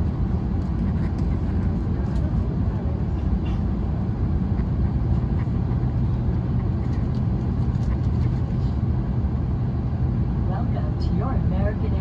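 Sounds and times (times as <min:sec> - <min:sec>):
airliner cabin rumble: 0:00.0 - 0:12.0
constant hum: 0:00.0 - 0:12.0.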